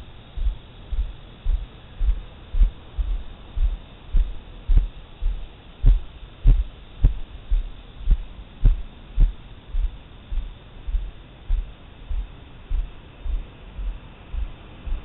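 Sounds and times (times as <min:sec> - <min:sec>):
footsteps dull thuds: 0:00.0 - 0:15.0.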